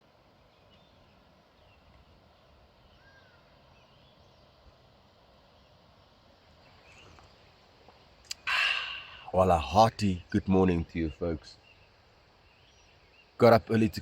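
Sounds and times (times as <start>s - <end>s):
distant bird calls: 0.1s - 14.0s.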